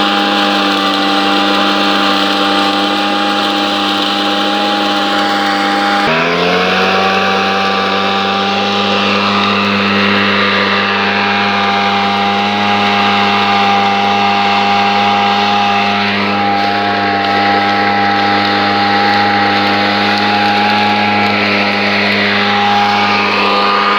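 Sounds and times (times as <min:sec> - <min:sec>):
machine engine running: 0:00.0 - 0:23.9.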